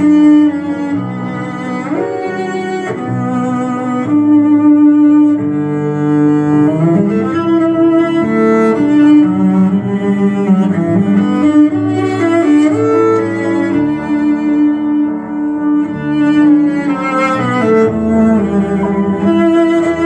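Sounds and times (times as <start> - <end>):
cello music from a record: 0.0 - 20.0.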